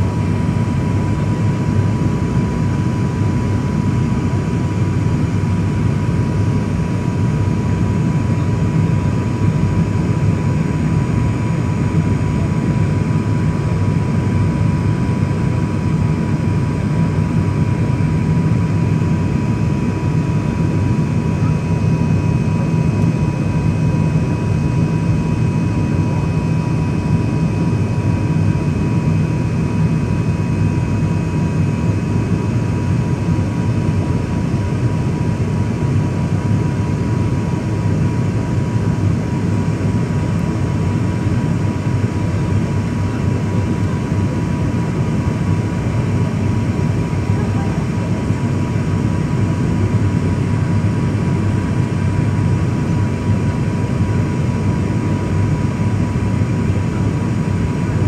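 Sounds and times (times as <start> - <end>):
airliner engines droning: 0.0 - 58.0
thin steady whine: 0.0 - 58.0.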